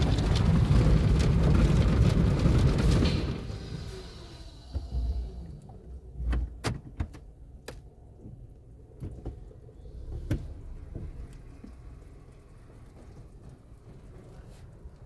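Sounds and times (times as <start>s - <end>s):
low rumble: 0.0s - 6.6s, 7.9s - 15.0s.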